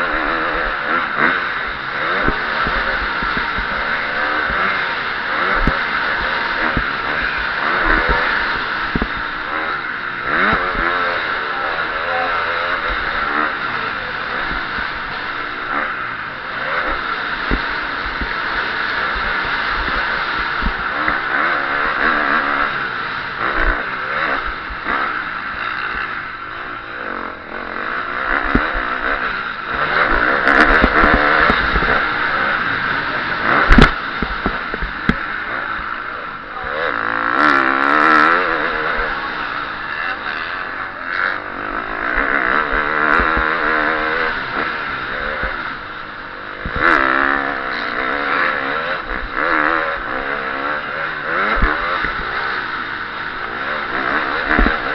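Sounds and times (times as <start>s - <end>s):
motocross engine revving: 0.0s - 54.9s.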